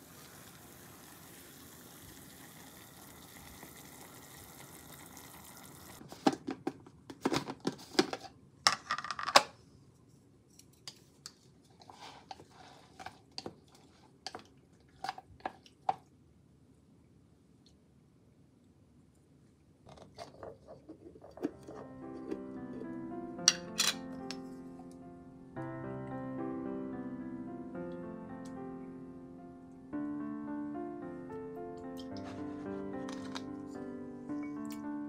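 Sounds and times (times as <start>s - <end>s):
faint steady hiss: 0.0s - 7.1s, 9.5s - 35.0s.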